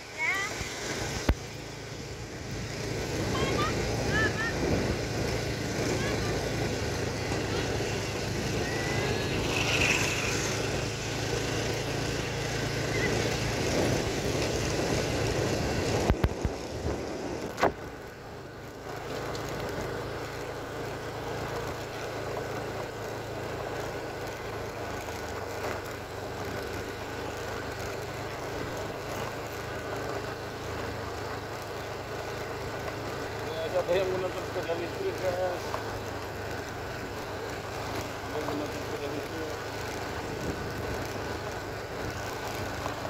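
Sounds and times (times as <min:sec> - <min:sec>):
gravel road noise: 0:00.0 - 0:43.0
small motorcycle engine running: 0:00.0 - 0:43.0.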